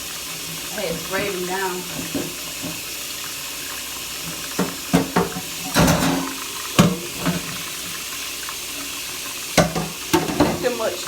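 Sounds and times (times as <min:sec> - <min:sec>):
faucet running into sink: 0:00.0 - 0:11.0.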